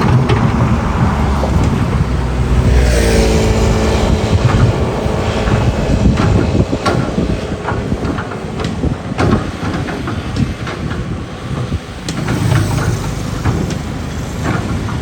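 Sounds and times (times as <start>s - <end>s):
excavator rumble: 0.0s - 15.0s
metallic knocks and clanks: 0.0s - 15.0s.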